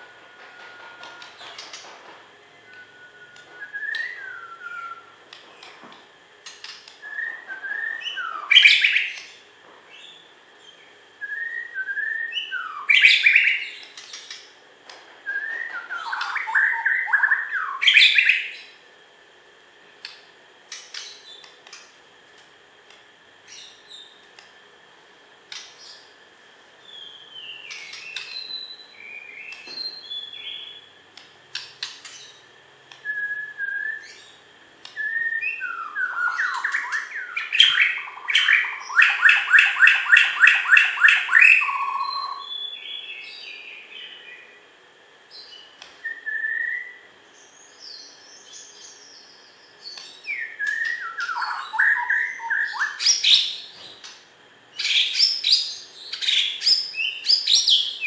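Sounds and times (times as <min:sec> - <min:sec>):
songbird singing: 0:00.0 - 0:19.0, 0:19.7 - 0:22.2, 0:22.9 - 0:24.8, 0:25.5 - 0:58.0.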